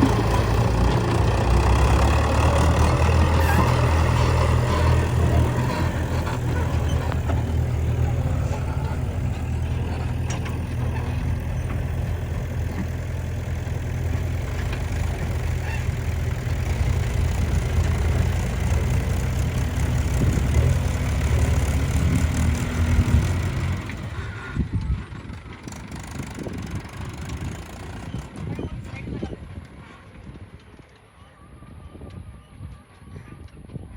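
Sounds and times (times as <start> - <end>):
heavy diesel engine running: 0.0 - 30.5.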